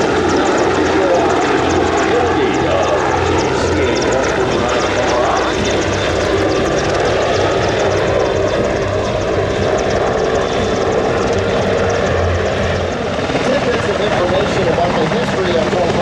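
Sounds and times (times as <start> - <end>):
helicopter hovering: 0.0 - 16.0.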